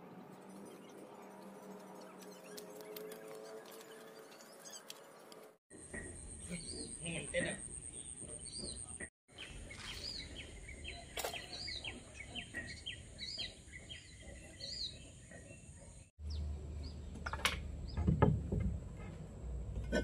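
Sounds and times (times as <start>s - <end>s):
small birds chirping: 0.2s - 18.1s.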